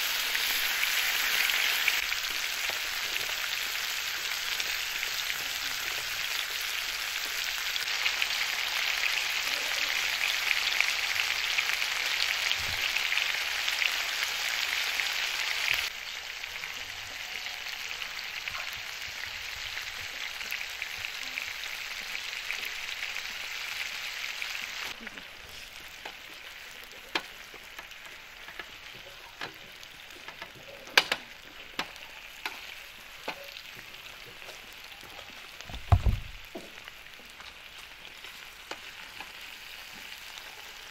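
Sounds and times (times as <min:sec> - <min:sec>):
chicken sizzling in hot fat: 0:00.0 - 0:40.9.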